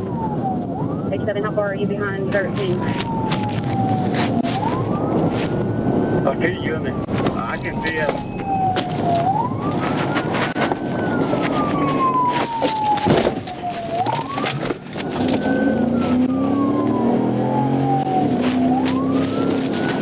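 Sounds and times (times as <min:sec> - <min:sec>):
car engine and road noise: 0:00.0 - 0:20.0
police siren wailing: 0:00.0 - 0:20.0.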